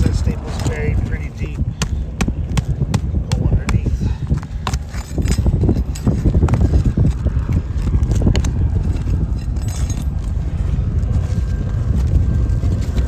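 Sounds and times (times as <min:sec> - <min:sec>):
clicks and scrapes of shingles: 0:00.0 - 0:13.0
wind buffeting microphone: 0:00.0 - 0:13.0.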